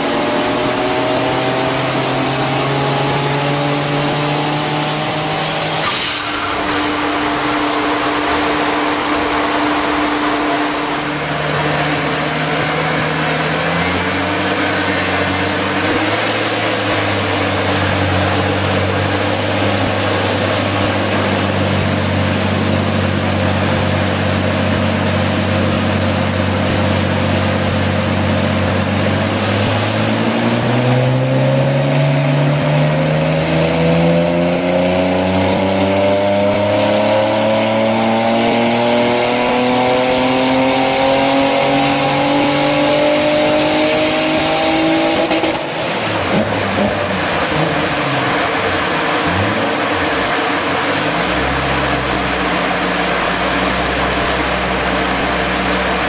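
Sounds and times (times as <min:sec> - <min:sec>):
car engine revving on a dyno: 0:00.0 - 0:56.0
steady rushing noise: 0:04.8 - 0:35.6, 0:36.9 - 0:56.0.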